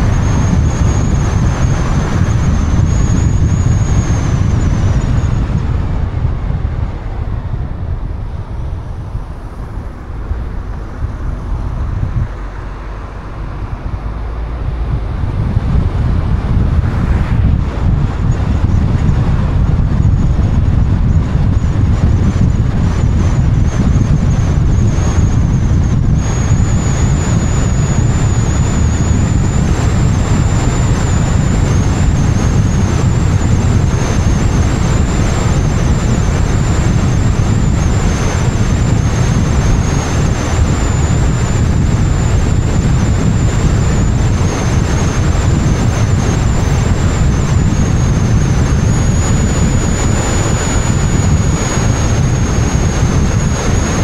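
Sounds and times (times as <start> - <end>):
tyre and road noise: 0.0 - 54.0
wind buffeting microphone: 0.0 - 54.0.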